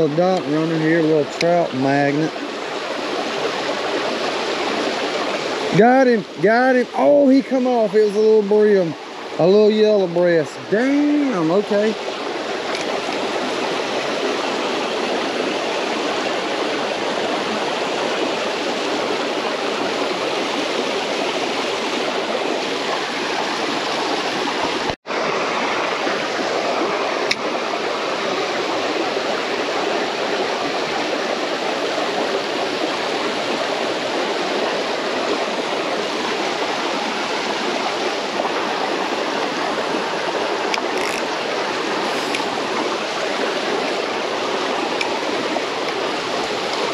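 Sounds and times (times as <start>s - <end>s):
water rushing through a ditch: 0.0s - 46.9s.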